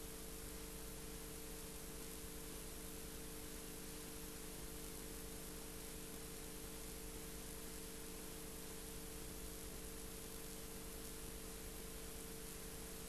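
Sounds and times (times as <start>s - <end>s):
faint steady hum: 0.0s - 13.0s
steady tape hiss: 0.0s - 13.0s.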